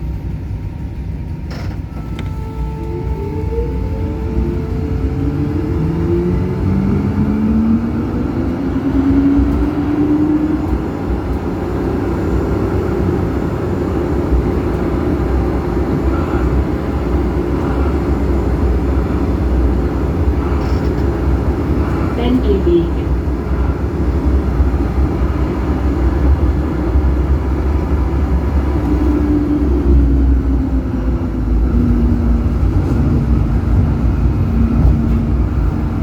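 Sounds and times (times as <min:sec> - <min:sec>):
tram motors whining: 0:00.0 - 0:36.0
wheels rumbling on rails: 0:00.0 - 0:36.0.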